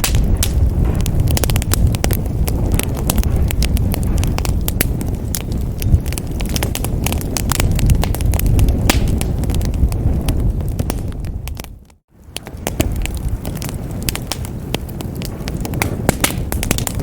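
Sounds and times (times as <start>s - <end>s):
fire roaring with crackles and pops: 0.0s - 17.0s.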